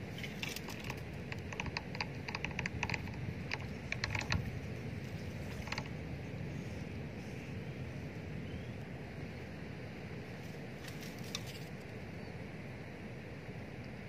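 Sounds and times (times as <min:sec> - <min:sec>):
low wind noise: 0:00.0 - 0:14.0.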